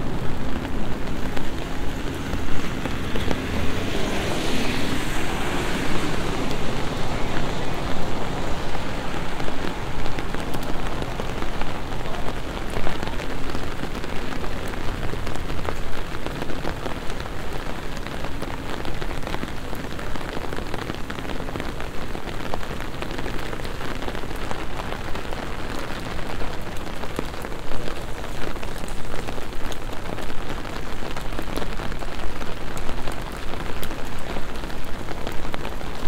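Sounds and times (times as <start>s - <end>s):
rain on stone paving: 0.0s - 36.0s.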